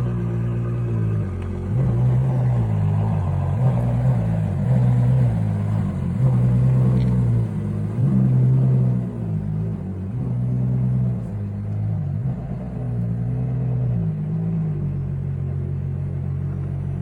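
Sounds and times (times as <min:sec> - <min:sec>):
sports car engine idling: 0:00.0 - 0:17.0.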